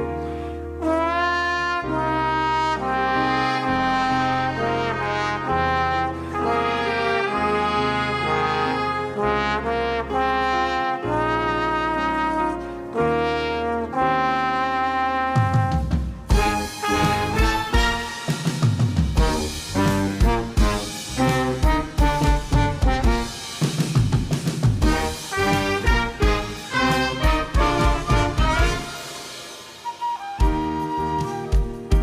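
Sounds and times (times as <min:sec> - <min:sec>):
brass orchestra playing chords: 0:00.0 - 0:24.0, 0:24.8 - 0:30.0.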